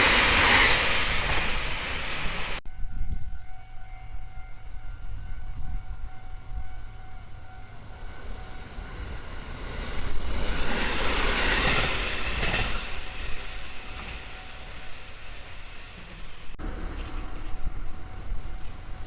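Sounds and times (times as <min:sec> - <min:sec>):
train passing: 0:00.0 - 0:19.0.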